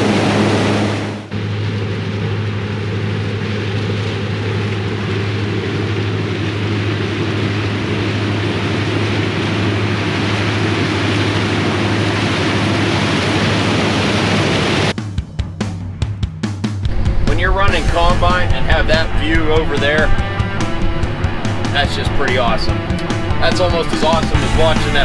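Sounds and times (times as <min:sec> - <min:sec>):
machinery hum: 0:00.0 - 0:15.0, 0:16.9 - 0:25.0.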